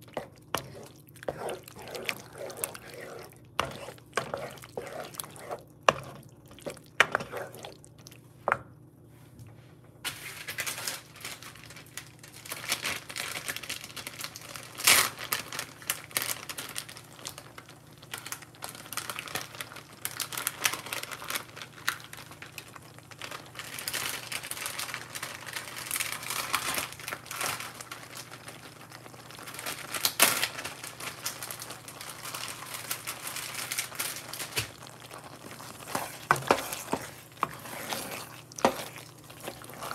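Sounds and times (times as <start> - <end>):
sauce crackling and popping: 0.0 - 8.3, 14.2 - 39.9.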